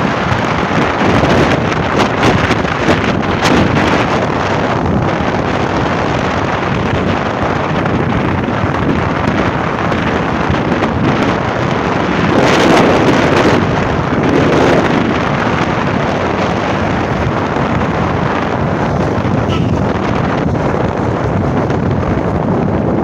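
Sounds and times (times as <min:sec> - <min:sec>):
motorcycle engine: 0:00.0 - 0:23.0
road noise: 0:00.0 - 0:23.0
wind rushing over microphone: 0:00.0 - 0:23.0.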